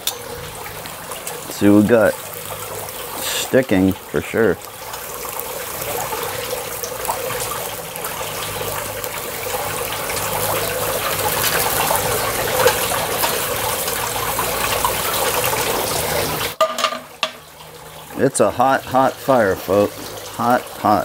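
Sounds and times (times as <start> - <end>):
steaks sizzling on a grill: 0.0 - 21.0.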